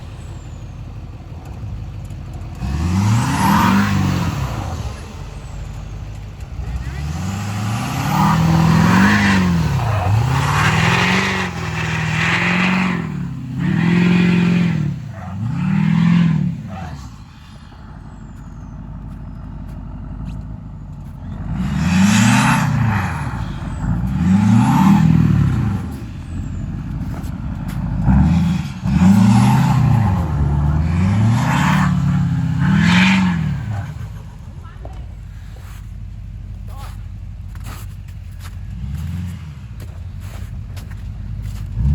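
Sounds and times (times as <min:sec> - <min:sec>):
engine idling: 0:00.0 - 0:41.9
vehicle engine revving: 0:00.0 - 0:41.9.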